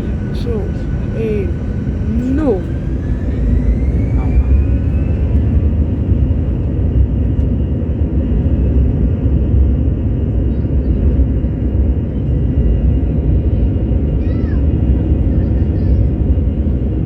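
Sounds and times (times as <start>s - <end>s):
jet engines and airflow rumbling: 0.0s - 17.0s.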